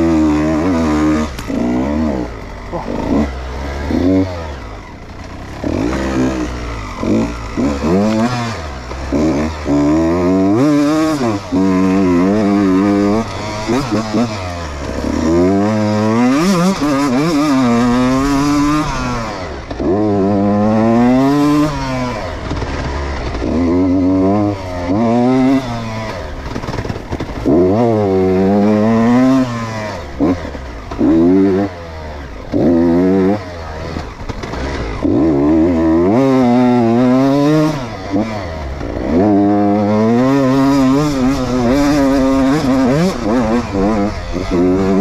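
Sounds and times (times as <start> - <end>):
two-stroke motorbike engine revving: 0.0 - 45.0.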